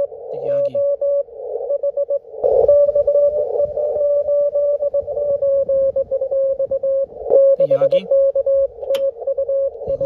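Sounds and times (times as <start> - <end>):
radio hiss: 0.0 - 8.4
morse code tone keyed: 0.5 - 10.0.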